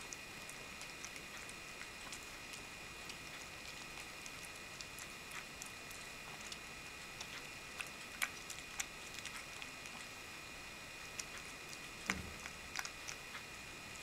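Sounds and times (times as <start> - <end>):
cat lapping and chewing: 0.0 - 14.0.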